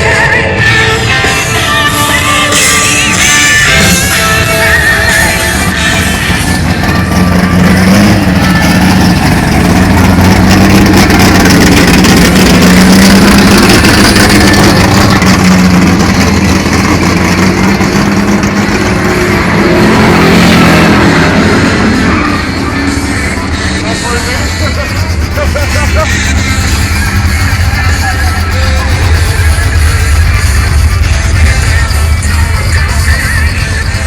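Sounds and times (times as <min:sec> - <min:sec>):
car engine running rough: 0:00.0 - 0:34.0.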